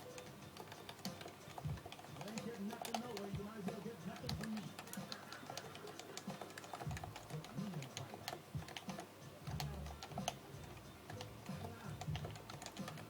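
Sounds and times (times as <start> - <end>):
keyboard keys tapping: 0.0 - 13.0.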